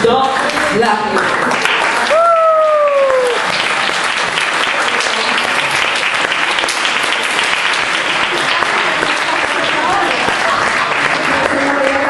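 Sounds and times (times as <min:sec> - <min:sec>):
audience applauding: 0:00.2 - 0:12.0.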